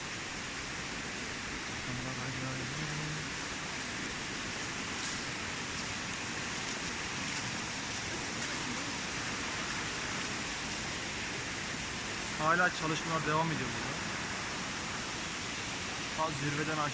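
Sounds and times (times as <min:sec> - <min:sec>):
stream rushing over rocks: 0:00.0 - 0:16.9.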